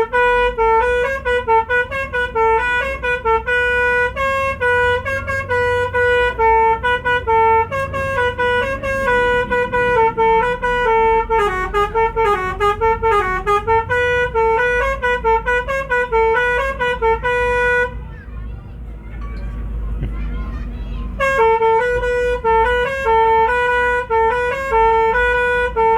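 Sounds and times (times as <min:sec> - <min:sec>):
musical bus air horn tooting: 0:00.0 - 0:25.9.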